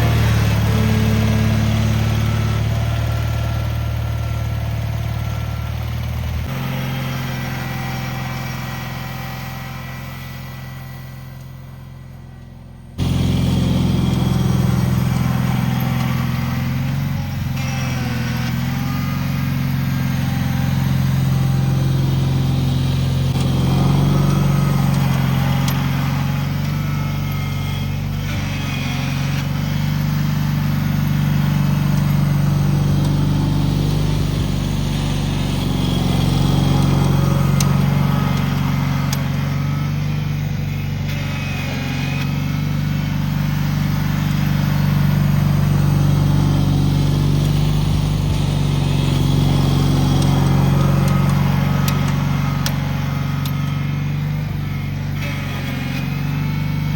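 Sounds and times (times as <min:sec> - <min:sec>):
garden tractor engine running: 0:00.0 - 0:56.9.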